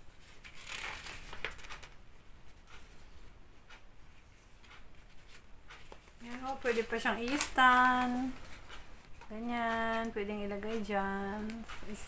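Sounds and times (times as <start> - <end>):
paper leaflet rustling: 0.1 - 12.0.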